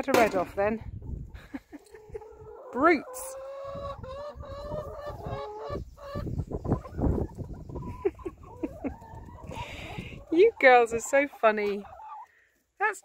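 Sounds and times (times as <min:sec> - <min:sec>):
hens clucking: 0:01.0 - 0:13.0.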